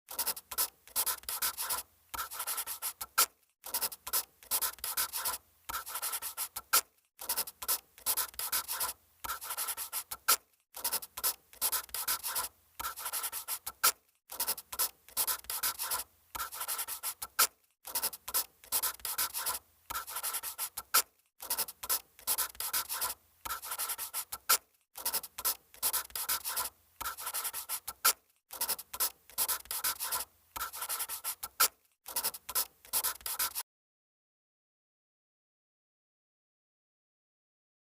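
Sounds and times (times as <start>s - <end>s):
pen scratching on paper: 0.1s - 33.6s.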